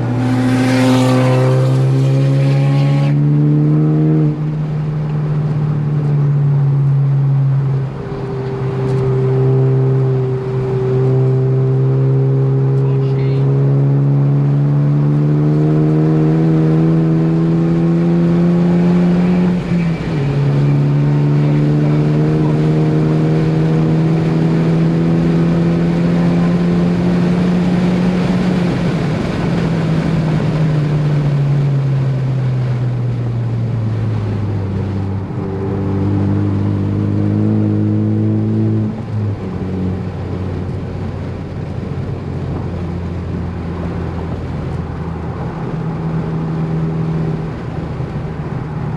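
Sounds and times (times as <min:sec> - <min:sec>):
car engine revving under load: 0:00.0 - 0:48.9.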